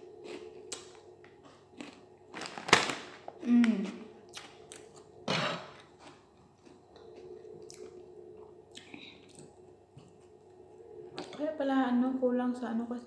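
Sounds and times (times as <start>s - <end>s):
person chewing food: 0.0s - 11.4s
faint steady hum: 0.0s - 13.0s.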